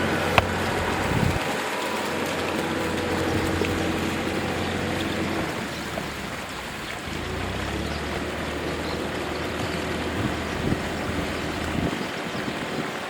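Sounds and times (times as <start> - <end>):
constant rushing noise: 0.0 - 13.0
tractor diesel engine running: 0.0 - 13.0.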